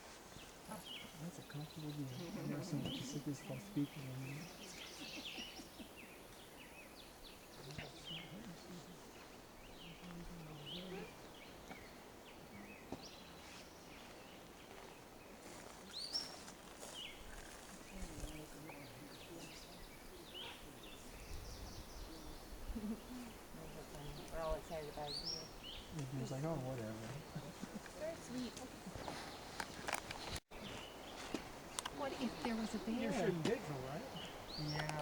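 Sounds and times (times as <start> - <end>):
steady background hiss: 0.0 - 29.7, 30.6 - 35.0
faint bird chirps: 0.4 - 29.5.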